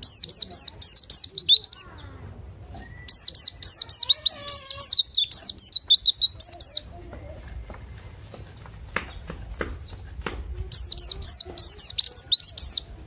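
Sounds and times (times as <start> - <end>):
bird high chirps: 0.0 - 7.0, 8.0 - 13.0.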